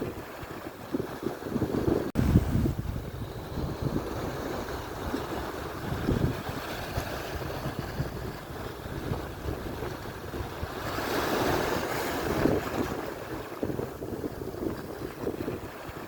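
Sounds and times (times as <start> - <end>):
surf washing onto shore: 0.0 - 16.0
wind buffeting microphone: 0.0 - 16.0.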